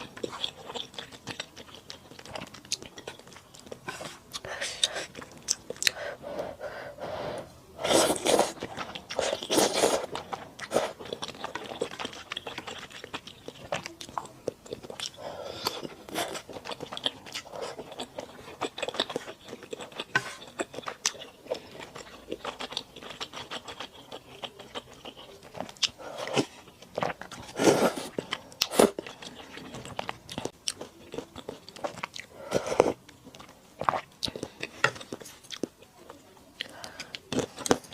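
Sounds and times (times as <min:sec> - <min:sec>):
wet chewing: 0:00.0 - 0:06.5, 0:07.9 - 0:37.9.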